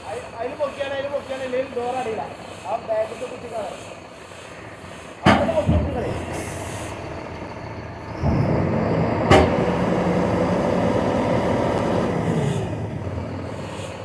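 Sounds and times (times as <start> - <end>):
truck diesel engine revving: 1.7 - 14.0.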